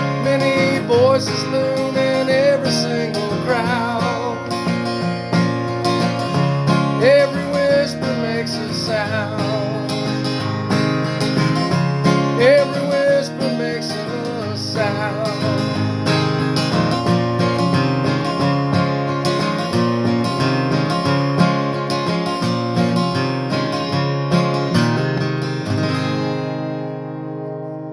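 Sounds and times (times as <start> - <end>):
guitar lead line with sliding notes: 0.0 - 27.9
strummed acoustic guitar: 0.0 - 27.9.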